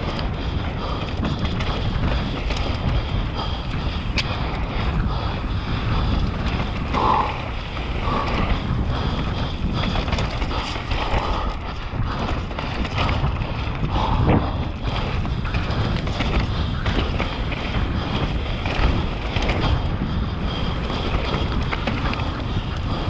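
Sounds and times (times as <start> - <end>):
bike clattering over bumps: 0.0 - 23.0
tyres rolling over dirt and stones: 0.0 - 23.0
wind rushing over microphone: 0.0 - 23.0.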